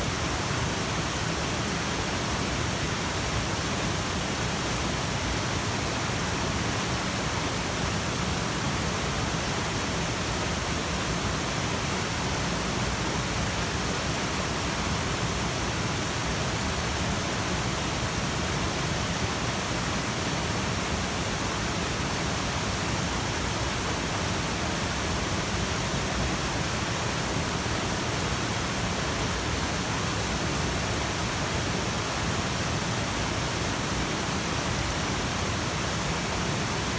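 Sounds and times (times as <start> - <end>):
mountain stream rushing: 0.0 - 36.9.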